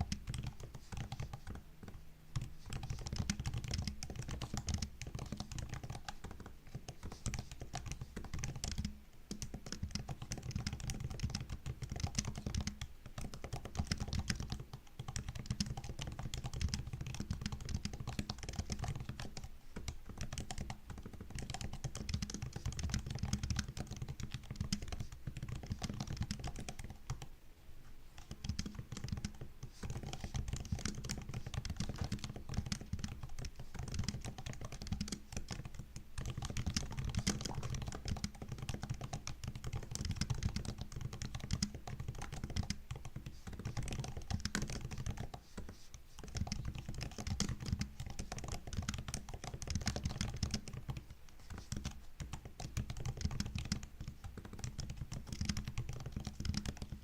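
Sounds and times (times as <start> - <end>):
laptop keyboard typing: 0.0 - 27.3, 28.2 - 57.0.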